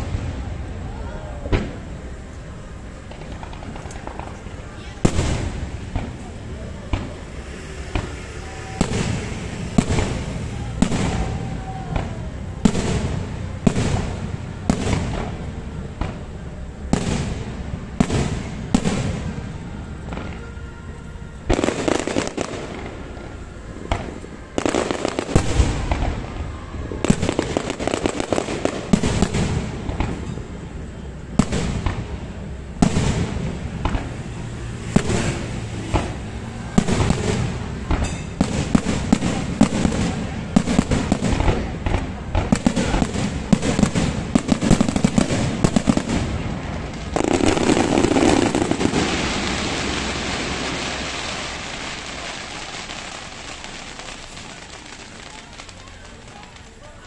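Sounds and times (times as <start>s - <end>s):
crackling firework shower: 0.0s - 57.0s.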